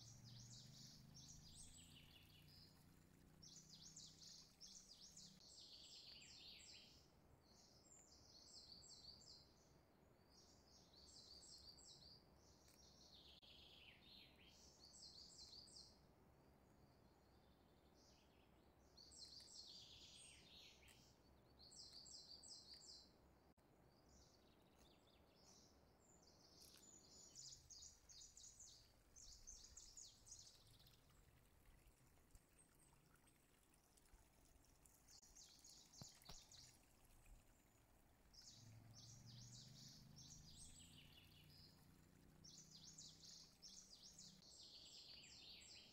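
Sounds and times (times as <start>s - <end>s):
small birds chirping: 0.0s - 16.0s, 16.7s - 45.9s
low steady hiss: 0.0s - 45.9s.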